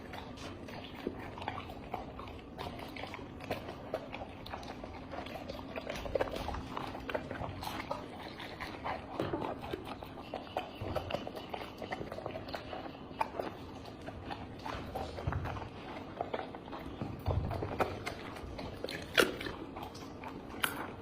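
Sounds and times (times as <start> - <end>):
dog chewing wet food: 0.0 - 21.0.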